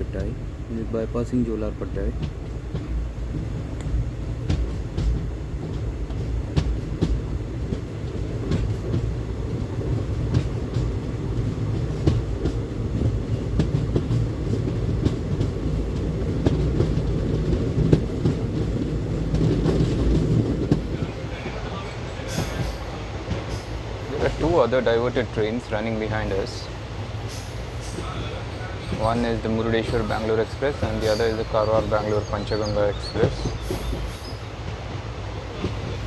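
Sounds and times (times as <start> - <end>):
train rumbling: 0.0 - 36.0
wheels clacking over rail joints: 1.8 - 36.0.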